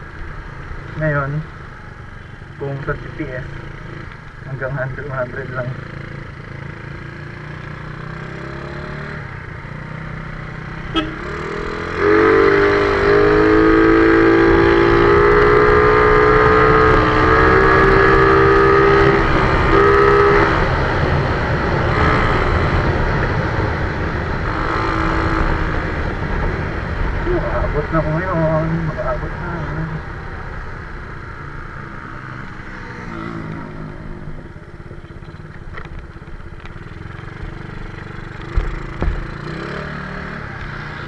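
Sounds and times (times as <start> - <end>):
scooter engine at full throttle: 5.6 - 27.2, 28.9 - 41.0.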